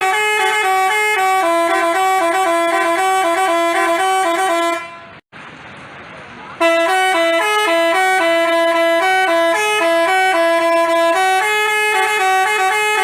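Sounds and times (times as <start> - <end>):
horn playing a melody: 0.0 - 5.2, 6.6 - 13.0.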